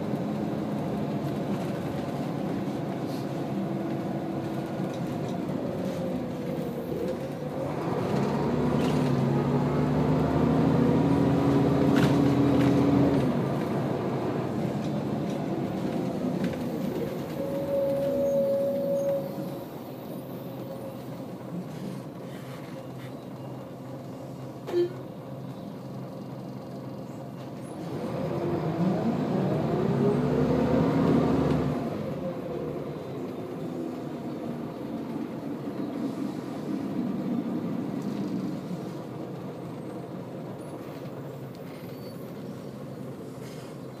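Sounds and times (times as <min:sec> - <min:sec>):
bus engine and road drone: 0:00.0 - 0:44.0.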